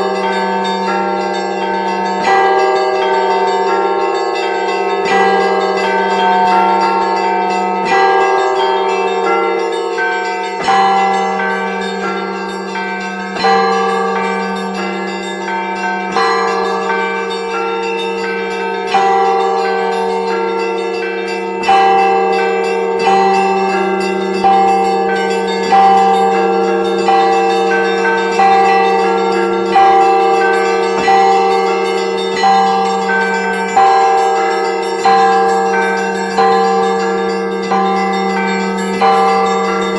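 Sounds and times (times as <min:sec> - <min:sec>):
deep bell hum: 0:00.0 - 0:39.9
heavy bell strokes: 0:00.0 - 0:39.9
small bells ringing: 0:00.0 - 0:39.9.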